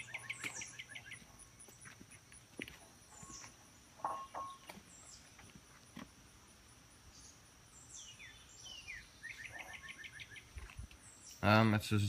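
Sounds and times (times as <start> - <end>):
birds chirping and calling: 0.0 - 5.6, 7.1 - 11.7
insects droning: 0.0 - 12.0.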